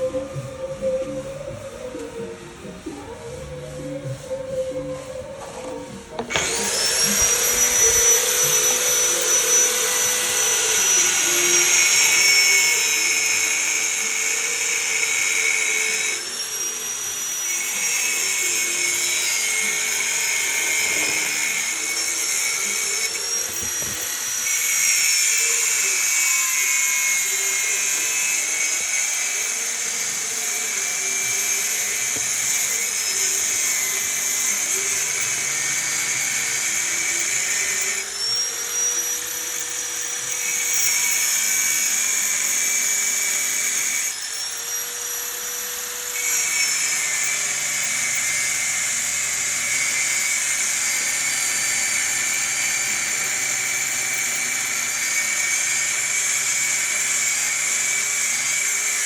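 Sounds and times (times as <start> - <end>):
power tool high whine: 0.0 - 59.0.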